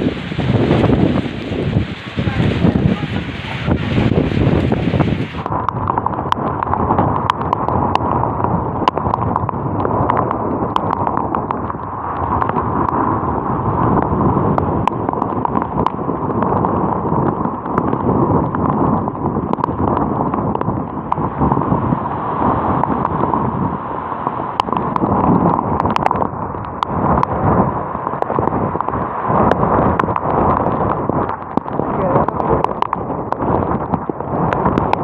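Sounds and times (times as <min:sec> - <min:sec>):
sharp crackles: 0:00.0 - 0:35.0
wind on microphone: 0:00.0 - 0:35.0.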